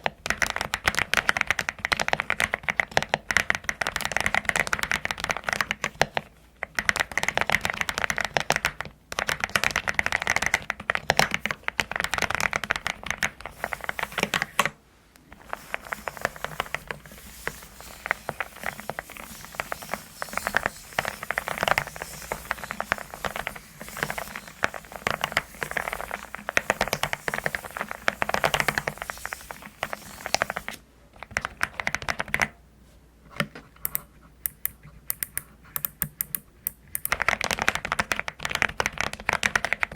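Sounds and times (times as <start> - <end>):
mechanical keyboard typing: 0.0 - 14.8, 15.6 - 32.5, 33.8 - 39.9.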